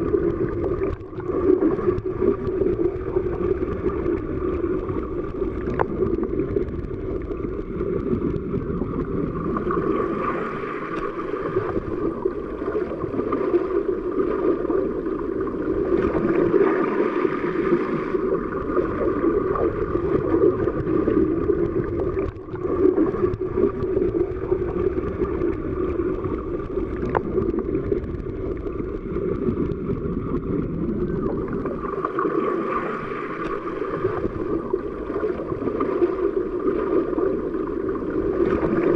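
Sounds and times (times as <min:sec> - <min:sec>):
muffled underwater water noise: 0:00.0 - 0:38.9.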